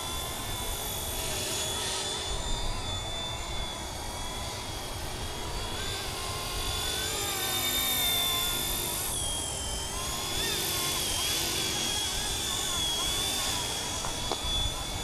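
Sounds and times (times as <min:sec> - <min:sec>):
model helicopter flying: 0:00.0 - 0:15.0.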